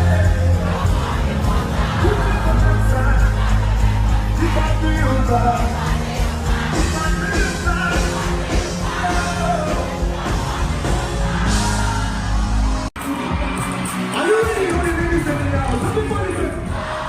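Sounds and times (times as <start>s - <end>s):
heavy bass and beat: 0.0s - 17.0s.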